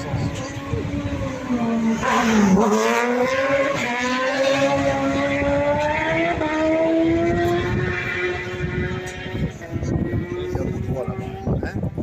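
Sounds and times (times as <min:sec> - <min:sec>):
motorcycle engine passing and accelerating: 0:00.0 - 0:11.2.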